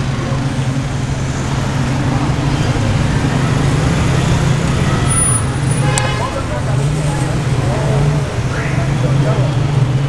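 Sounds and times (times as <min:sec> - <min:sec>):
street traffic engine hum: 0:00.0 - 0:10.0.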